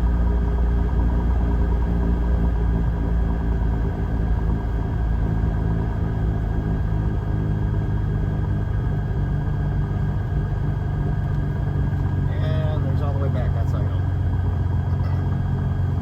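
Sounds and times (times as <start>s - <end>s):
aircraft engine running: 0.0s - 16.0s.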